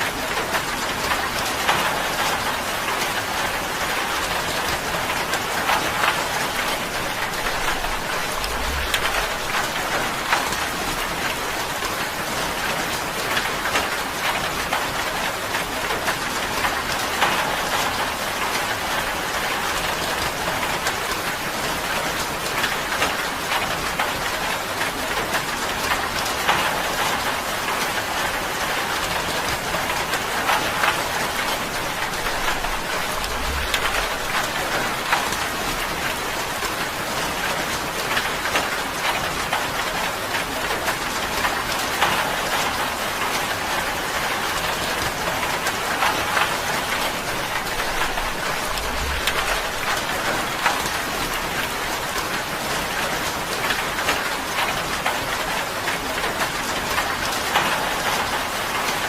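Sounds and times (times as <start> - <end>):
rain drumming on a tin roof: 0.0 - 59.0.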